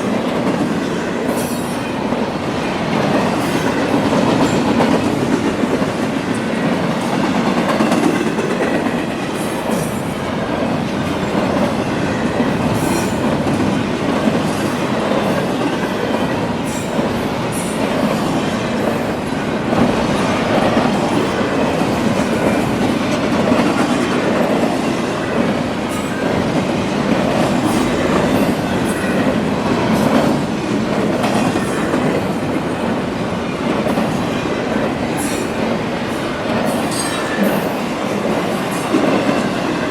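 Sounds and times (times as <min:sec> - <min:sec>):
train wheels clacking on rails: 0:00.0 - 0:39.9.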